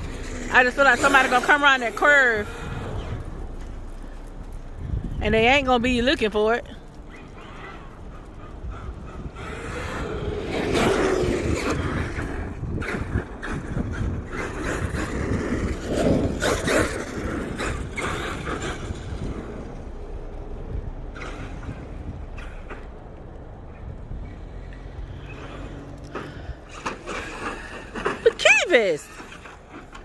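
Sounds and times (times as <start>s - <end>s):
tyres clicking and scrabbling: 0.0s - 30.0s.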